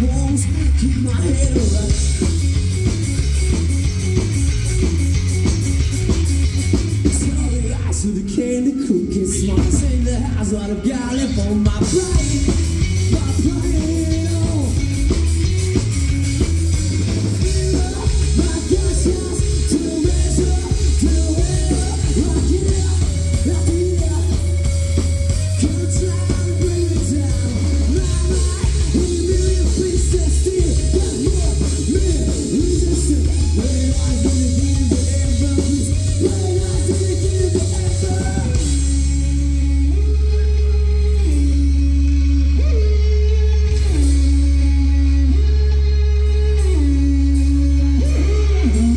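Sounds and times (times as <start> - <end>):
live rock band playing: 0.0 - 48.9
sustained guitar chords: 0.0 - 48.9.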